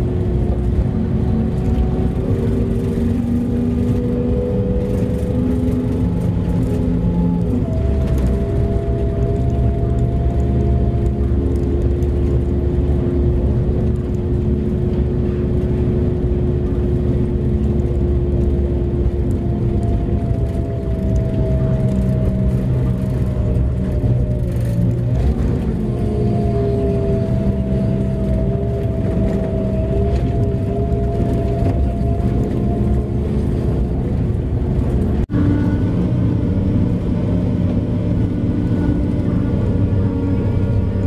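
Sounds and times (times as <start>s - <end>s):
truck diesel engine rumbling: 0.0s - 41.0s
whining tones: 0.0s - 41.0s.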